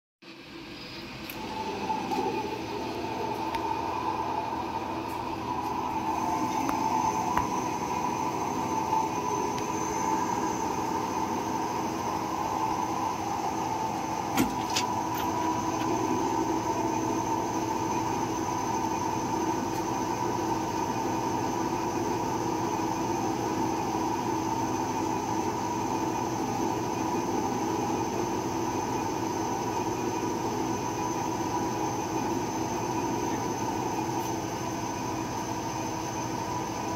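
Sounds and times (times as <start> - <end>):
lathe humming with high whine: 0.3 - 36.9.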